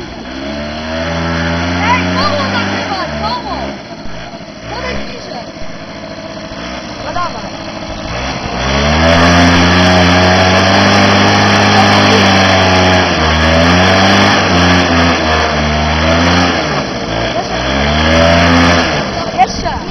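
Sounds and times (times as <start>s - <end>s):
scooter engine revving: 0.0s - 19.9s.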